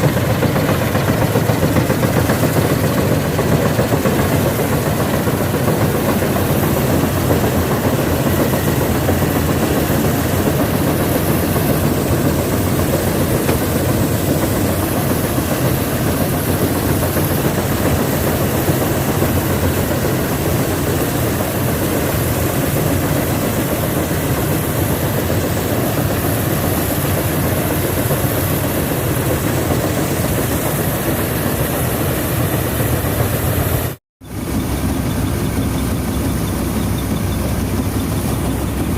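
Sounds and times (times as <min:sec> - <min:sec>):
combine harvester engine and machinery: 0:00.0 - 0:38.9.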